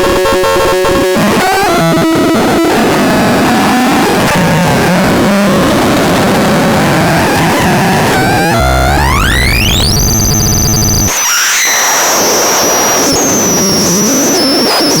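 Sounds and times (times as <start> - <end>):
high steady whine over noise: 2.6 - 15.0
buzzy synthesizer tone sweeping: 2.7 - 15.0.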